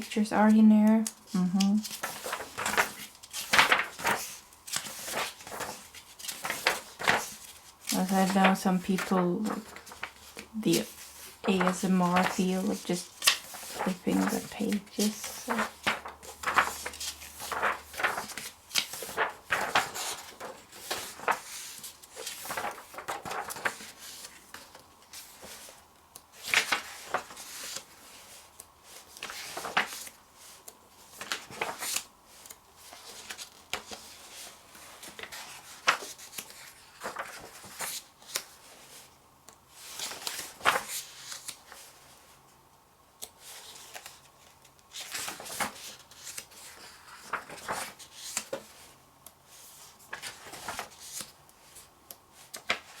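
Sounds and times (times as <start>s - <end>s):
magazine pages turning: 1.0s - 39.0s, 39.8s - 42.0s, 44.9s - 51.8s, 52.4s - 53.0s.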